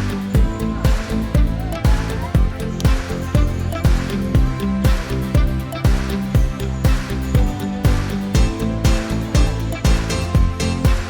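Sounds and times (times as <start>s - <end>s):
bass thumps: 0.0s - 11.0s.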